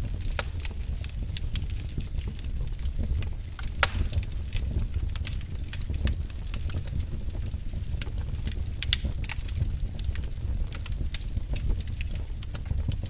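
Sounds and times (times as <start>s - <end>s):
fire crackling and popping: 0.0s - 13.0s
low fire rumble: 0.0s - 13.0s.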